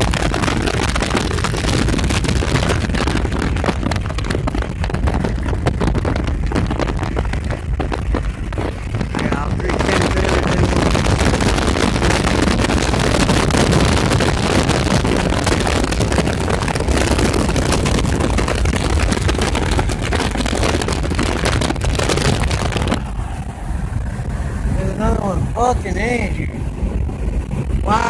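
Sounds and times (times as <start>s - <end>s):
car road rumble: 0.0s - 28.0s
wind buffeting microphone: 0.0s - 28.0s.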